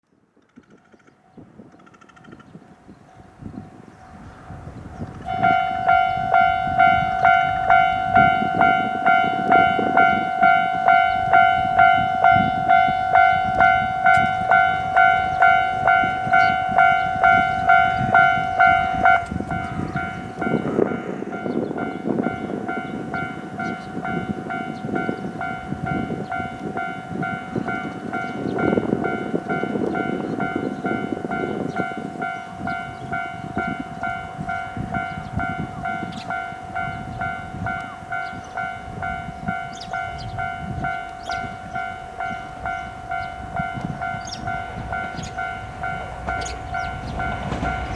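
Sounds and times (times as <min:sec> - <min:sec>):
train rumbling: 0:00.4 - 0:47.9
level crossing bell ringing: 0:05.3 - 0:47.9.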